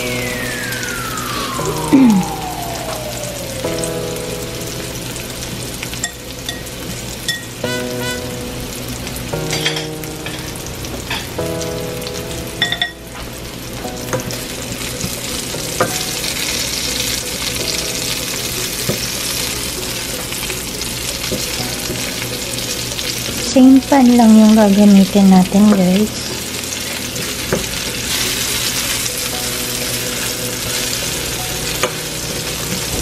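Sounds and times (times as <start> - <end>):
onions sizzling in a skillet: 0.0 - 33.0.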